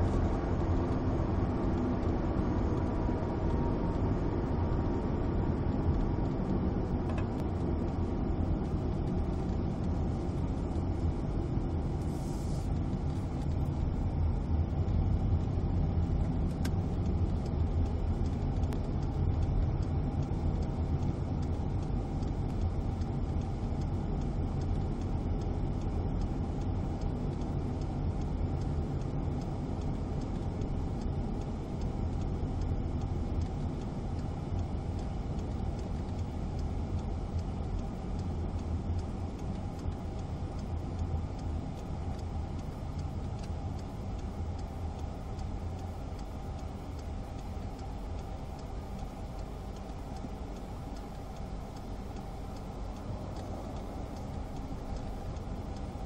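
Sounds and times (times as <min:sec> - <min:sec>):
car engine and road drone: 0:00.0 - 0:56.0.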